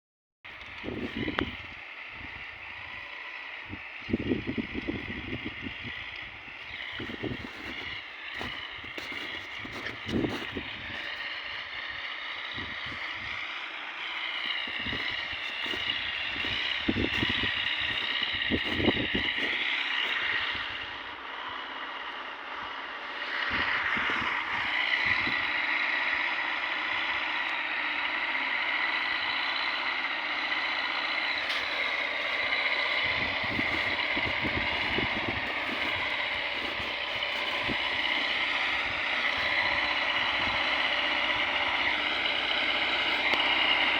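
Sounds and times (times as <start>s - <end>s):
engine running with high whine: 0.5s - 43.9s.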